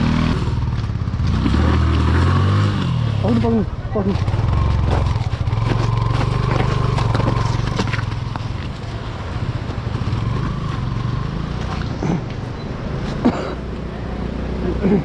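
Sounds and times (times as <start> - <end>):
motorcycle engine at low revs: 0.0 - 15.0
stones crunching under tyres: 0.6 - 13.2.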